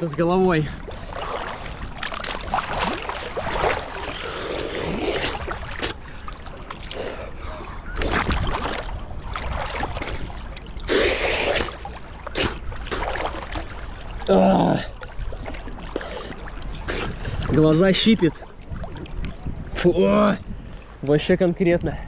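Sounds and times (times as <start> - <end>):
sea water splashing: 0.0 - 21.9.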